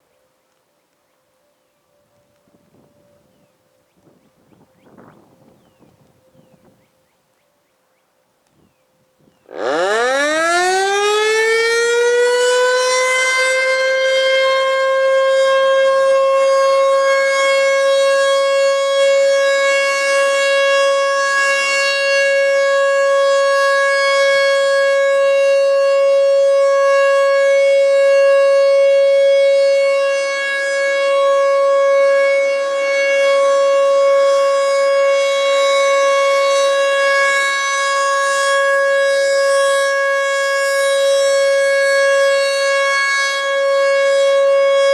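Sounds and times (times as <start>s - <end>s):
warning siren steady tone: 1.2s - 6.8s, 9.2s - 44.9s.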